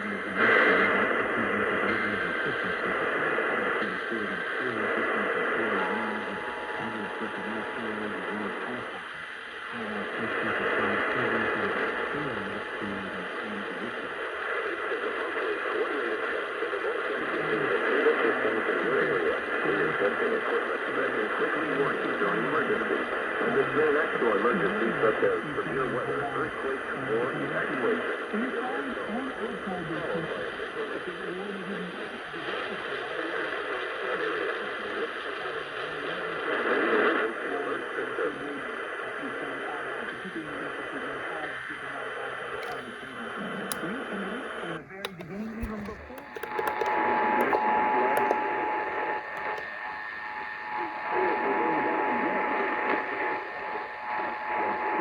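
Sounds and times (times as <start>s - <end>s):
faint voice on radio: 0.0s - 48.4s, 49.4s - 49.7s, 50.6s - 55.0s
radio static hiss: 0.0s - 55.0s.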